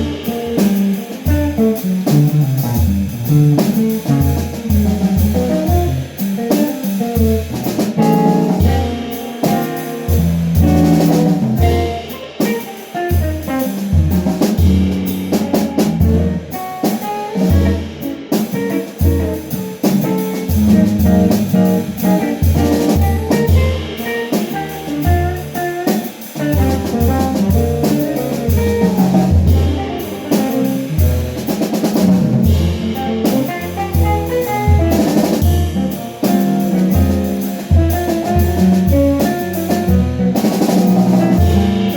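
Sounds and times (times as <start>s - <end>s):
bass notes: 0.0s - 12.1s, 13.1s - 16.7s, 17.4s - 25.7s, 26.4s - 41.9s
drum kit and cymbals: 0.0s - 41.9s
guitar: 0.0s - 41.9s
jazz band playing: 0.0s - 41.9s.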